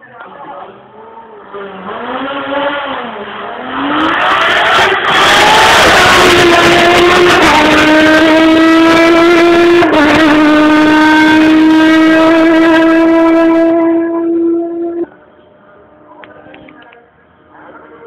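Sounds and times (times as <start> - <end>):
race car engine accelerating: 0.4 - 15.3.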